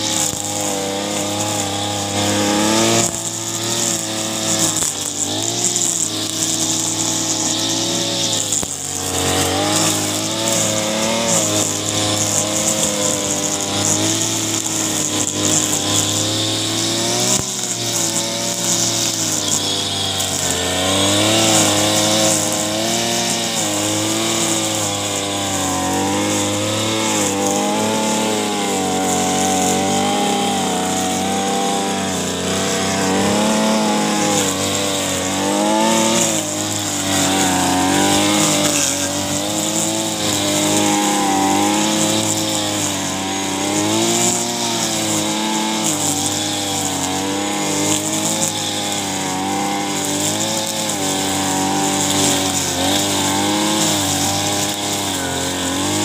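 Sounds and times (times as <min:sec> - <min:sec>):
brush cutter engine mowing grass: 0:00.0 - 0:56.0.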